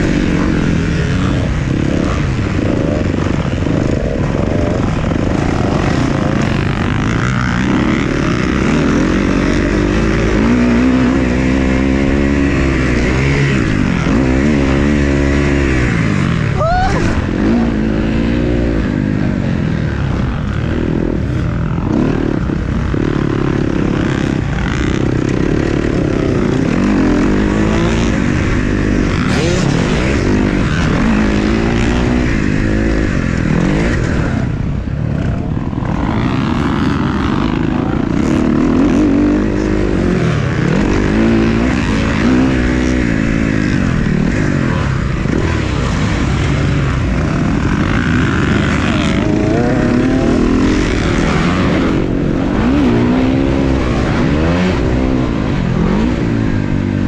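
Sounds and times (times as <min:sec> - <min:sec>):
dirt bike engines racing: 0:00.0 - 0:57.0.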